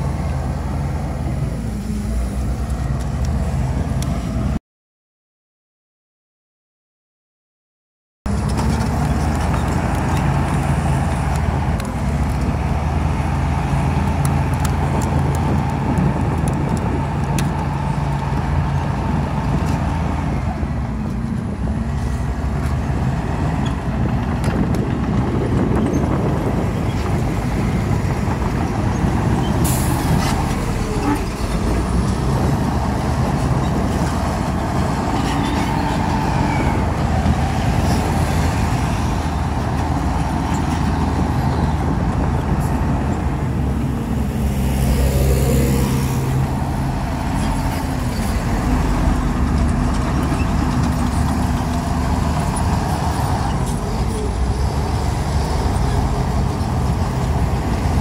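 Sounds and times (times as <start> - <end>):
heavy diesel engines under load: 0.0 - 4.6, 8.3 - 58.0.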